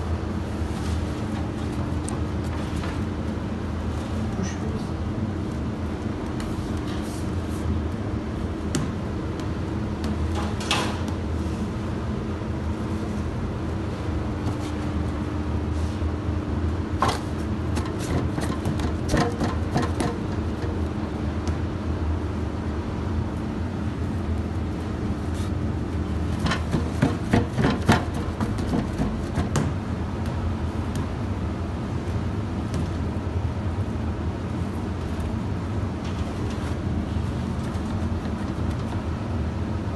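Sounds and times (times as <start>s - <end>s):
machinery hum: 0.0s - 39.9s.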